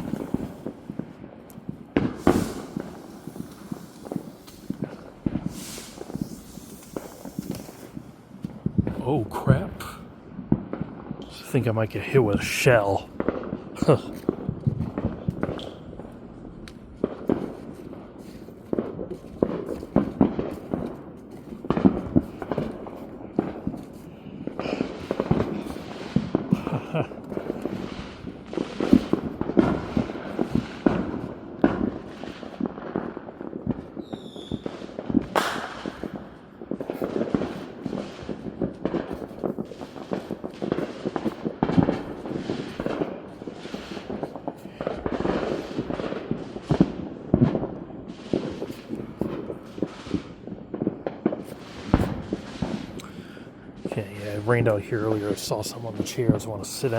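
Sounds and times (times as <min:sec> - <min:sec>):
fireworks and firecrackers banging: 0:00.0 - 0:56.9.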